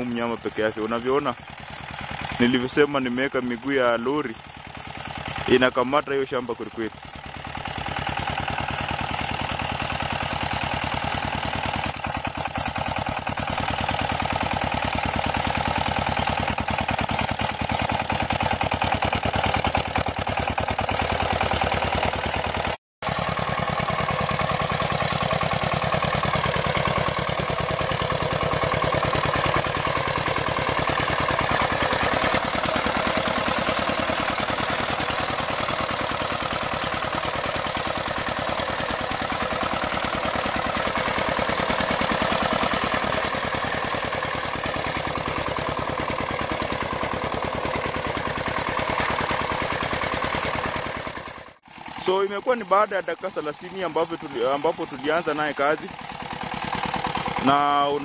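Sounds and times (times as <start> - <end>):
walking tractor engine running: 0.0 - 58.0.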